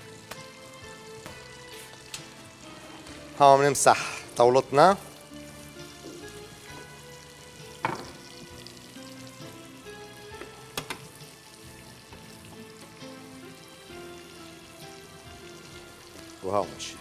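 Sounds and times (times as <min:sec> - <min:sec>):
fish frying in oil: 0:00.0 - 0:17.0.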